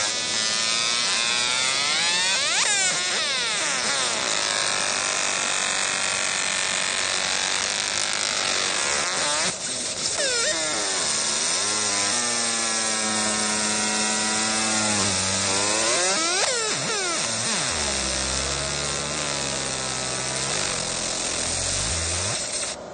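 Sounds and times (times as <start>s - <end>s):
motors whining: 0.0s - 22.9s
steady hiss: 0.0s - 22.9s.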